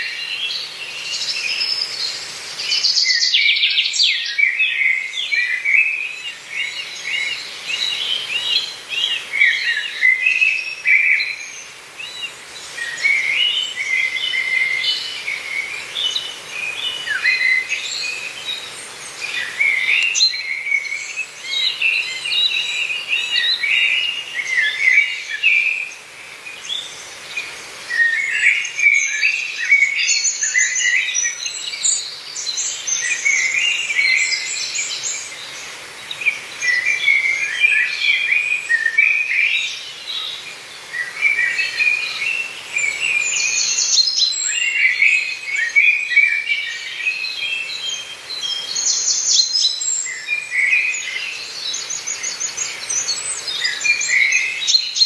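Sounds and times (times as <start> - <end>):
songbirds chirping and warbling: 0.0 - 55.0.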